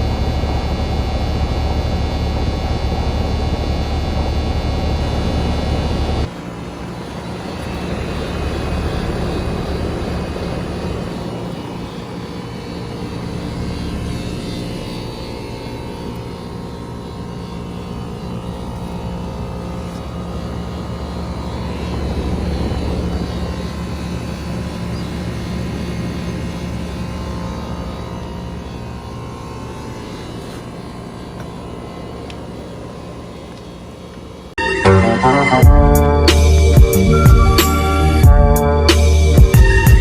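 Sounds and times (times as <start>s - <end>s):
condenser fan whoosh: 0.0s - 33.9s
compressor electrical hum: 0.0s - 34.6s.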